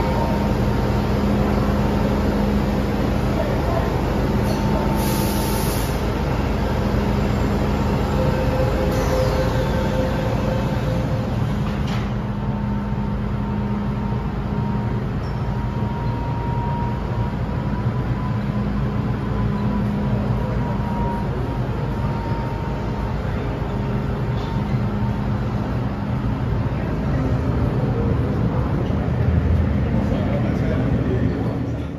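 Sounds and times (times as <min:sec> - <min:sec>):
train doors shutting: 0:00.0 - 0:29.9
stopped train humming: 0:00.0 - 0:31.9.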